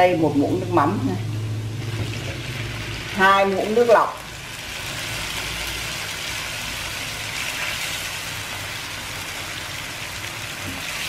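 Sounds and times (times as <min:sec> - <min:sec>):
shallots and garlic sizzling in oil: 0:00.2 - 0:11.0.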